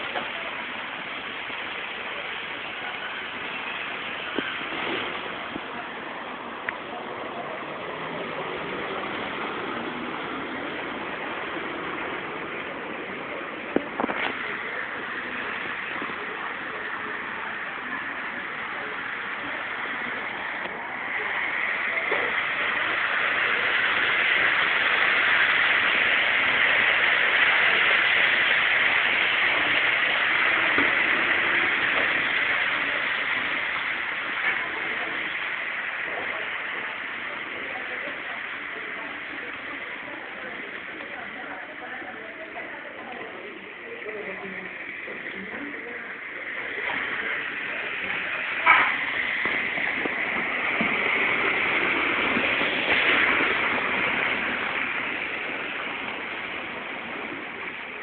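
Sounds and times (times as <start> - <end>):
tyres hissing on wet road: 0.0 - 58.0.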